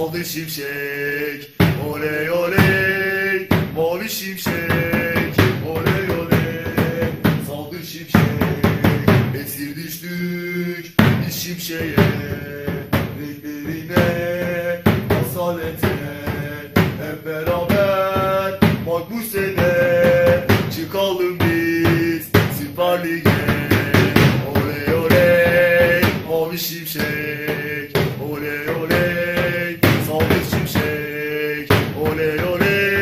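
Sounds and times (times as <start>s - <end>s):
drum kit beating: 1.6s - 10.2s, 10.8s - 33.0s.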